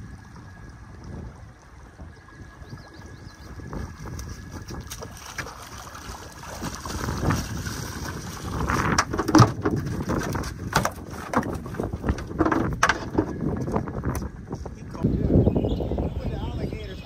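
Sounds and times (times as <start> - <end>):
water splashing: 0.0 - 13.9
wind on microphone: 0.0 - 17.0.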